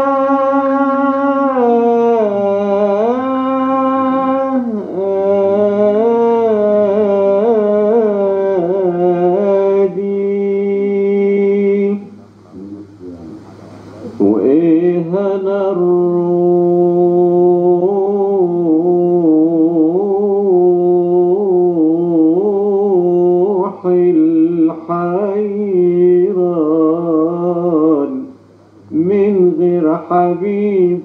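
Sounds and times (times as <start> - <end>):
man singing ornamented notes: 0.0 - 13.4, 14.0 - 31.0.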